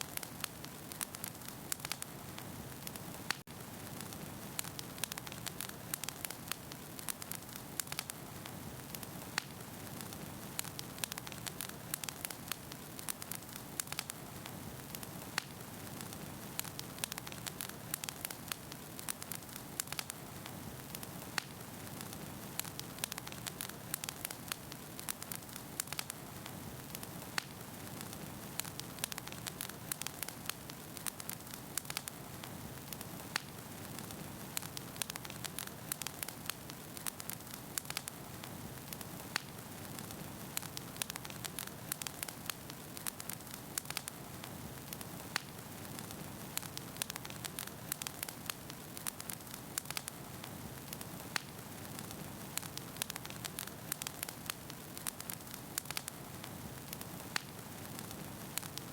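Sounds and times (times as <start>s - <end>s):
fire hissing: 0.0s - 58.9s
wood fire crackling and popping: 0.0s - 58.9s.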